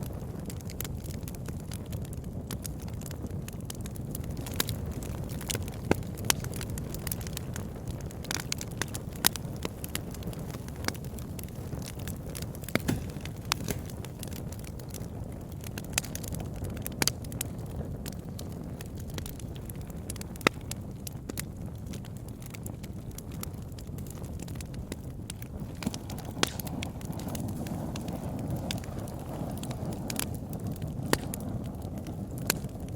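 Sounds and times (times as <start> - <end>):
campfire crackling and popping: 0.0 - 32.9.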